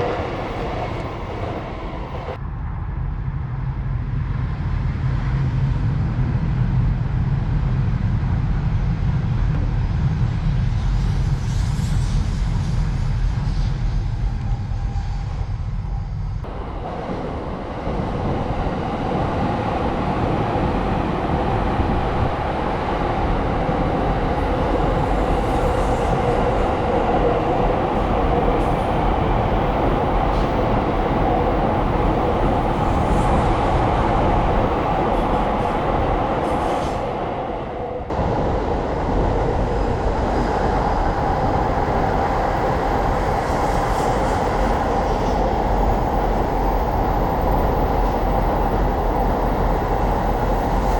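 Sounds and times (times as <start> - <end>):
electric trains rumbling past: 0.0 - 50.9.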